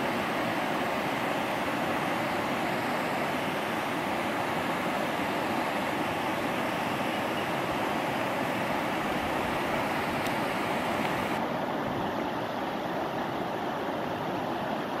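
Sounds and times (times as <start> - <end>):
river water rushing over rapid: 0.0 - 15.0.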